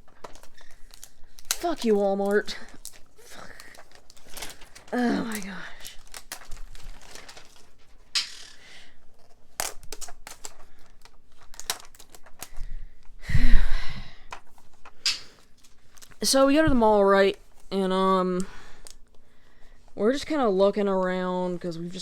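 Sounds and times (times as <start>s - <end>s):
plastic packaging crinkling: 0.0s - 13.5s, 14.2s - 19.8s.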